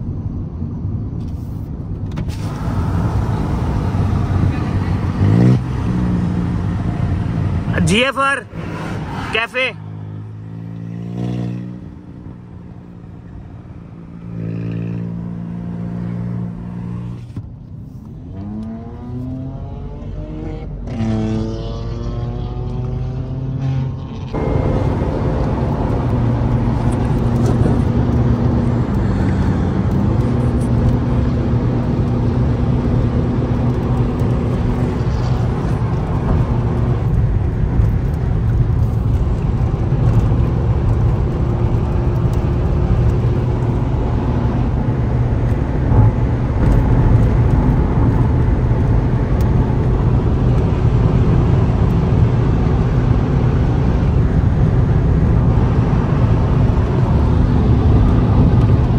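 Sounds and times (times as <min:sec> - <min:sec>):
car engine drone: 0:00.0 - 0:58.9
road and wind rumble: 0:00.0 - 0:58.9.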